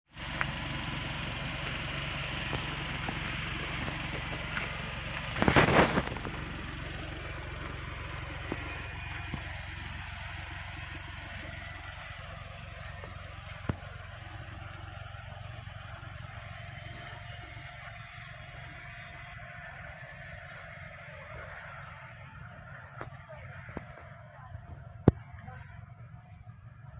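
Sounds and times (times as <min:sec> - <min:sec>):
car engine idling: 0:00.1 - 0:26.9.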